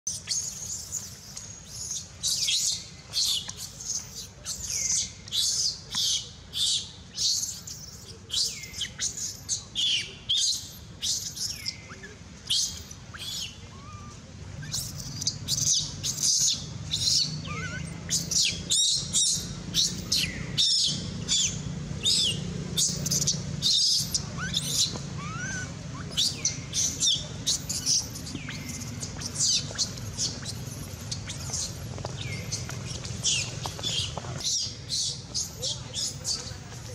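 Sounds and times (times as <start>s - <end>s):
baby monkey screaming: 0.1s - 33.5s
low steady hum: 0.1s - 36.9s.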